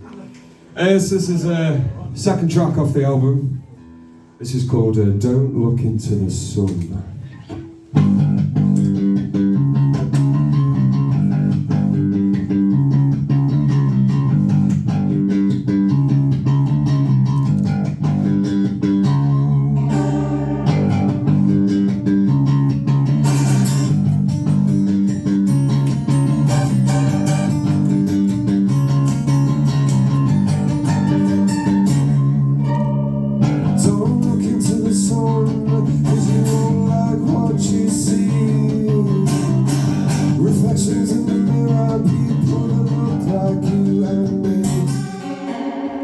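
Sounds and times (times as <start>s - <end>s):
bass guitar: 5.6s - 46.0s
electric guitars playing a riff: 7.2s - 46.0s.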